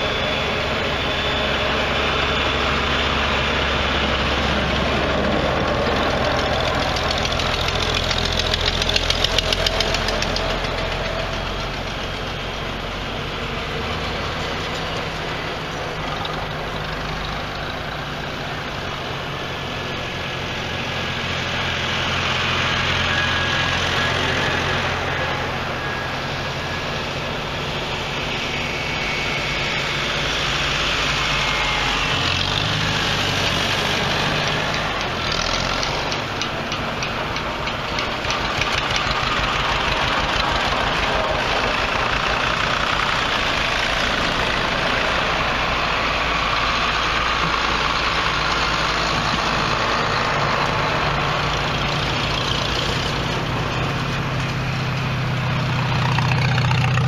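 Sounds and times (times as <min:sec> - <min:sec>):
tractors driving past: 0:00.0 - 0:57.0.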